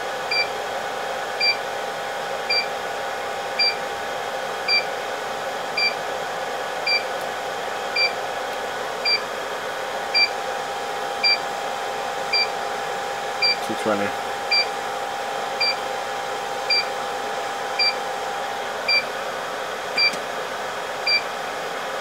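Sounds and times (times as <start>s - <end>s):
blower hiss and hum: 0.0s - 22.0s.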